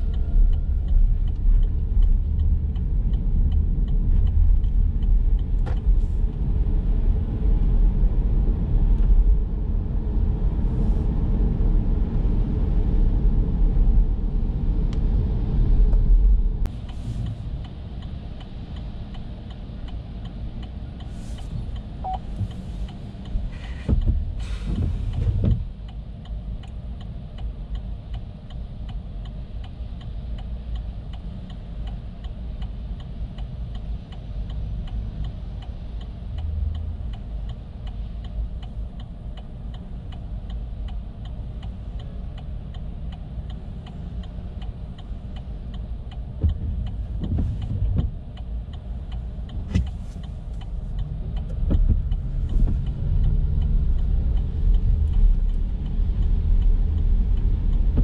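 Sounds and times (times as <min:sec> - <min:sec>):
turn signal ticking: 0:00.0 - 0:14.0, 0:14.6 - 0:58.0
low rumble of road traffic: 0:00.0 - 0:58.0.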